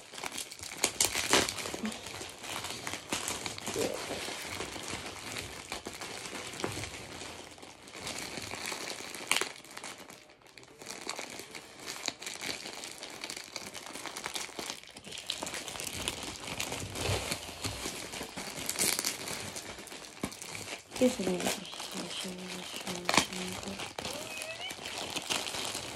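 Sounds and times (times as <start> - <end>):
plastic bag crinkling and rustling: 0.0 - 25.9.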